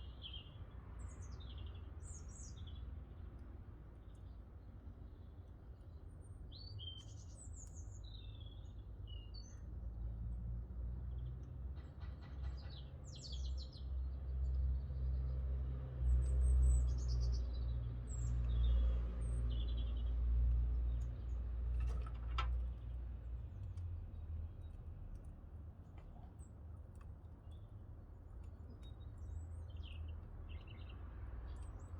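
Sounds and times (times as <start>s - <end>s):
songbirds chirping and trilling: 0.0s - 10.2s, 11.0s - 31.9s.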